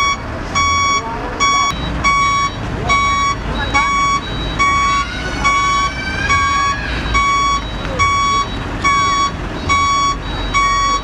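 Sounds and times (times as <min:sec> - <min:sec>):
diesel truck engines rumbling: 0:00.0 - 0:11.0
truck reversing alarm beeping: 0:00.0 - 0:11.0.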